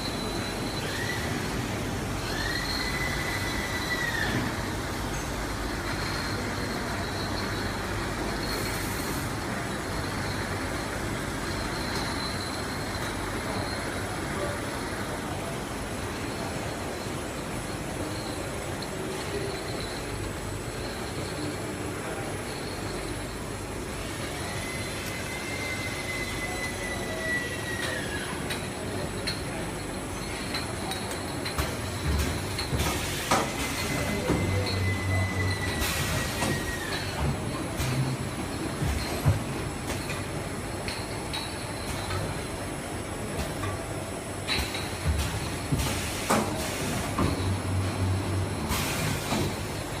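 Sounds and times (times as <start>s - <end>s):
machine hum and hiss: 0.0s - 50.0s.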